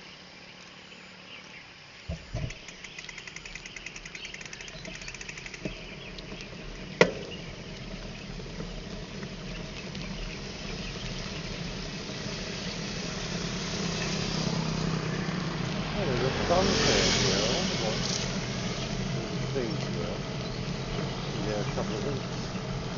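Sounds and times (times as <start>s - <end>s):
insect chirping: 0.0s - 22.9s
motorcycle engine running: 2.1s - 22.9s.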